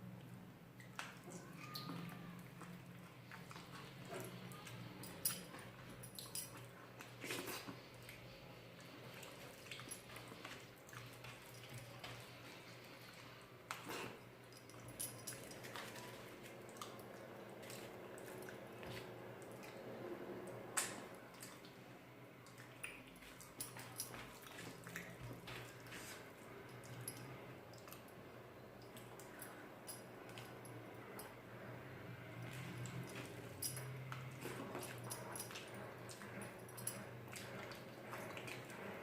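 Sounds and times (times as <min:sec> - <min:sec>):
chewing food: 0:00.2 - 0:31.6, 0:32.2 - 0:39.0.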